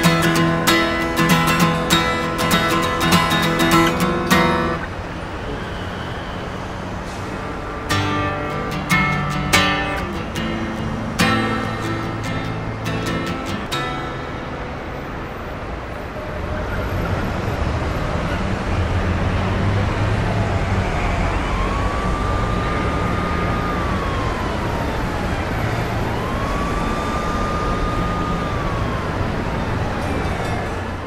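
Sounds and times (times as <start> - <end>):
emergency siren wailing: 0.0 - 31.0
street traffic rumble: 0.0 - 31.0.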